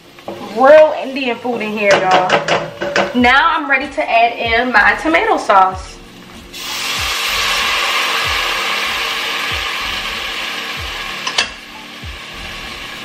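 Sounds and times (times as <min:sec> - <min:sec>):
sauce sizzling in a hot pan: 0:00.0 - 0:13.0.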